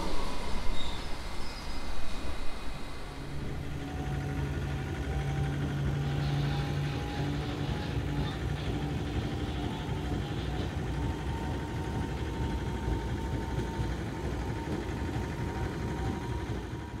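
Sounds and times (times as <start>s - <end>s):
train rumbling along track: 0.0s - 17.0s
small engine running: 2.2s - 17.0s.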